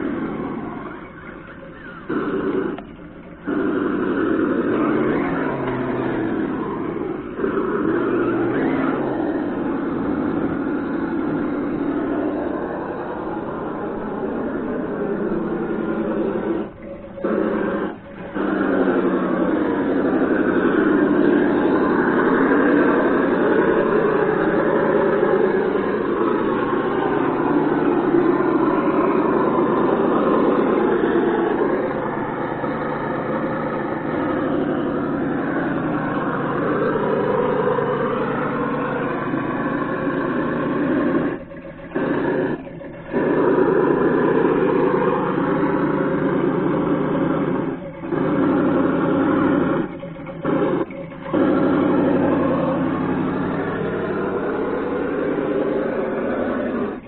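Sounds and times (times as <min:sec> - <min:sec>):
simulated engine revving: 0:00.0 - 0:57.0.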